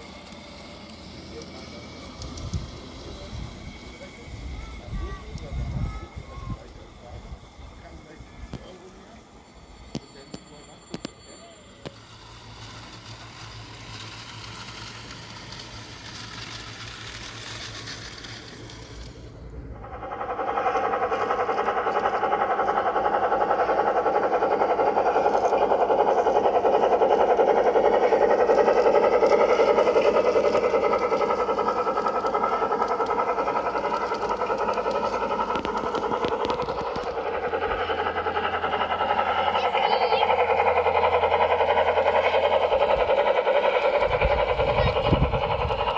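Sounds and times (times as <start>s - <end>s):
model train running on track: 0.0s - 45.9s.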